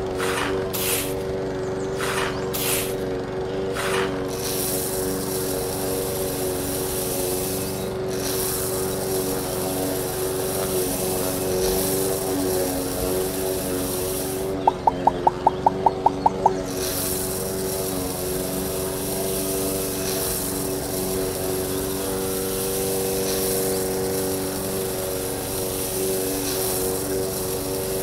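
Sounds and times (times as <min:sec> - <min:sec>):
grain hissing through mill: 0:00.0 - 0:28.0
grains rattling into hopper: 0:00.0 - 0:28.0
small motor humming: 0:00.0 - 0:28.0.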